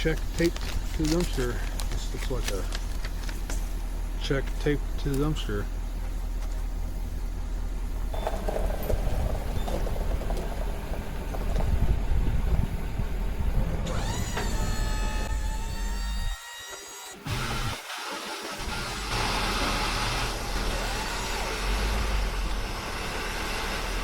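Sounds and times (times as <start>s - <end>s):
vehicle engine rumbling: 0.0s - 16.3s, 18.6s - 24.0s.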